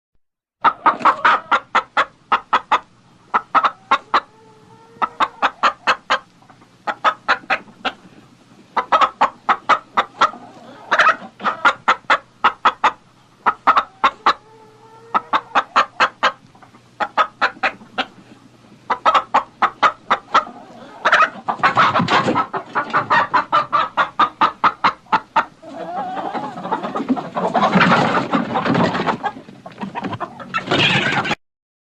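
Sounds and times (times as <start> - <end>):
hen clucking: 0.6 - 31.4.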